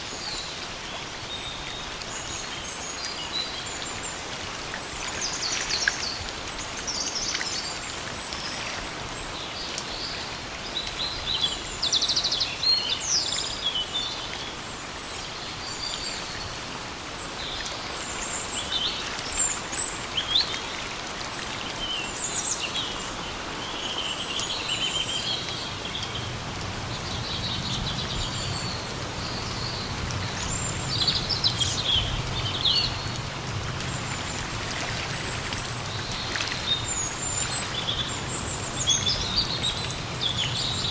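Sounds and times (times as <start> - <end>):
forest birds chirping: 0.0 - 40.9
steady rain hiss: 0.0 - 40.9.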